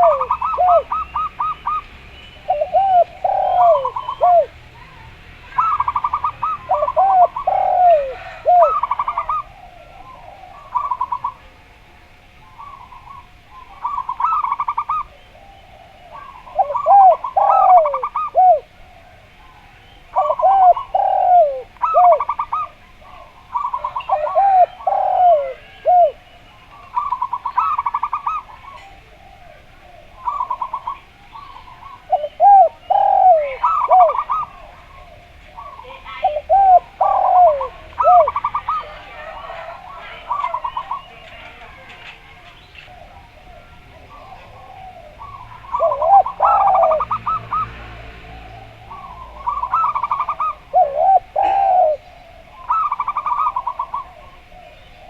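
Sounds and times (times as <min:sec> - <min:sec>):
dove arching coos: 0:00.0 - 0:55.0
dove trilled cooing: 0:00.0 - 0:55.0.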